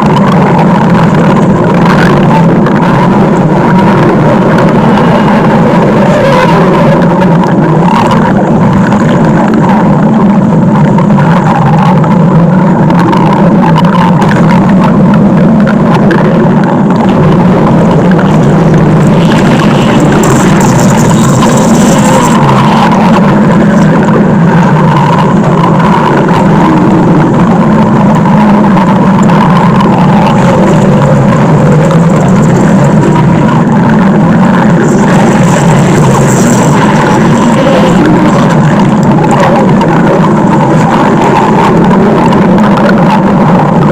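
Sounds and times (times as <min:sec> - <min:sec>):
stomach growling: 0:00.0 - 0:43.9.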